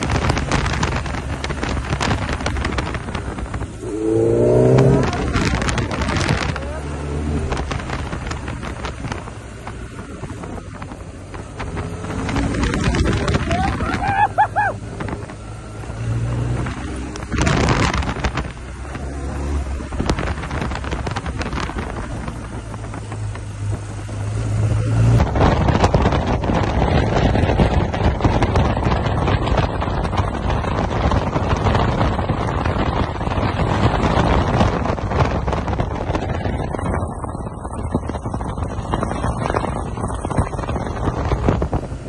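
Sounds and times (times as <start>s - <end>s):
motorcycle engine cruising: 0.0s - 42.0s
wind on microphone: 0.0s - 42.0s.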